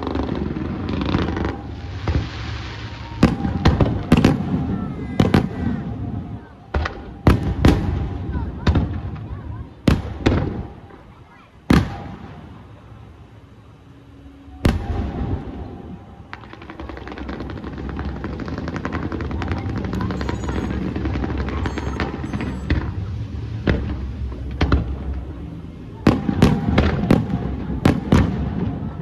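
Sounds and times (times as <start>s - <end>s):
firework burst: 0.0s - 13.1s, 14.1s - 29.0s
fireworks crackling: 0.0s - 29.0s.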